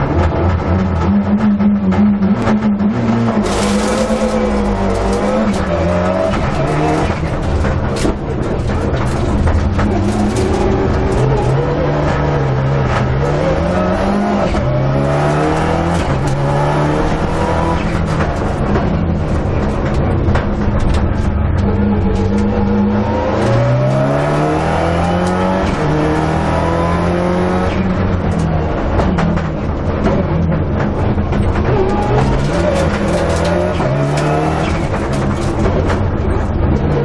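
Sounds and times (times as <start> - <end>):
rally car engine accelerating: 0.0 - 37.0
road and tyre noise: 0.0 - 37.0.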